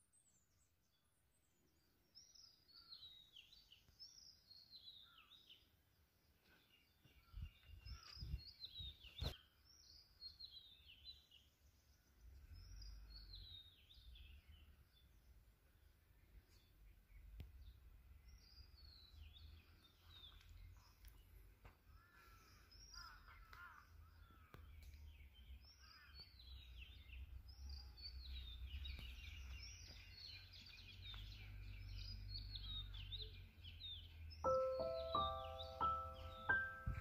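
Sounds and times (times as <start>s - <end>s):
birds chirping: 0.2s - 37.0s.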